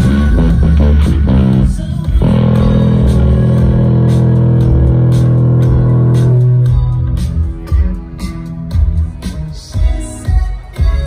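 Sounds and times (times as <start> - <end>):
electric bass guitar notes: 0.0 - 9.2.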